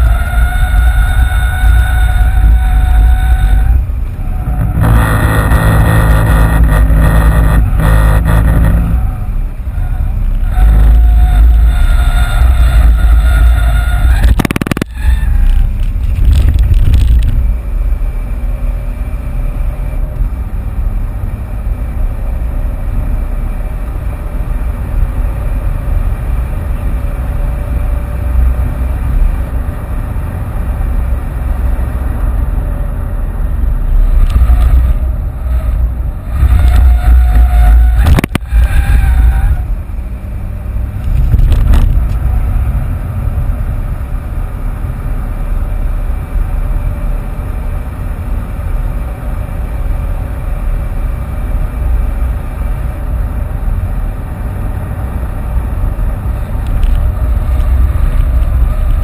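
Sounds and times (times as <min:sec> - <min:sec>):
car engine under hard acceleration: 0:00.0 - 0:59.0.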